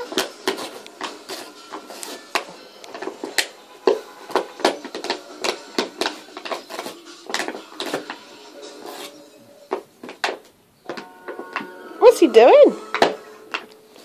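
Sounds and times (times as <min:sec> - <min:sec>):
plastic bottle crackling: 0:00.0 - 0:11.7.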